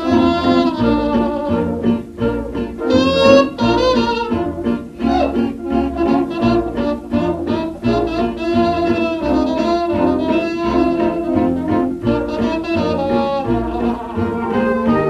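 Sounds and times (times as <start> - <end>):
jazz dance orchestra record: 0.0 - 15.0.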